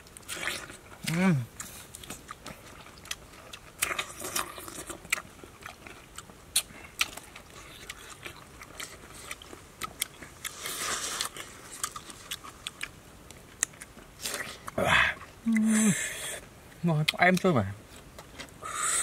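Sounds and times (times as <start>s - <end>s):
person chewing crunchy fruit: 0.0s - 19.0s.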